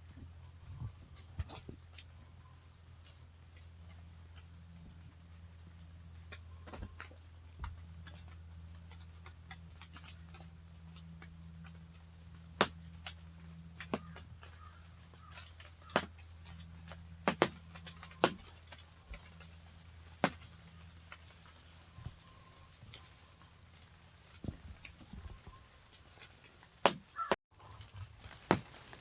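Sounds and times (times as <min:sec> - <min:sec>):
water drops falling on leaves: 0:05.2 - 0:29.0.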